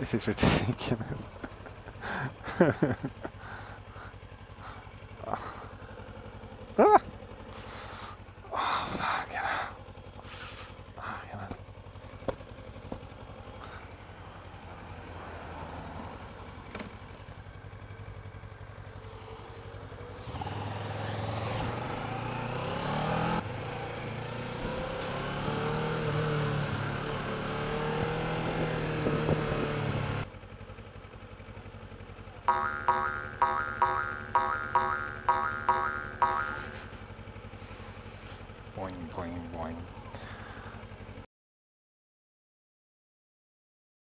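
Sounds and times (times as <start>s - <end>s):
motorcycle engine idling and accelerating: 0.0s - 41.3s.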